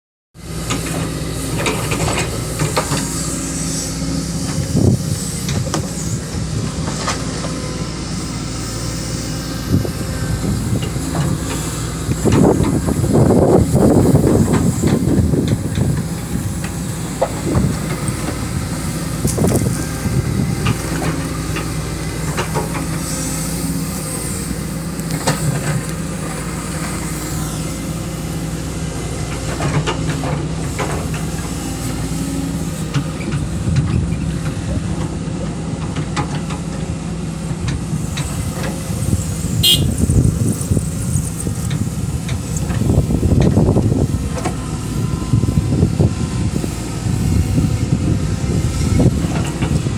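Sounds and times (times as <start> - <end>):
excavator diesel engine under load: 0.4 - 49.9.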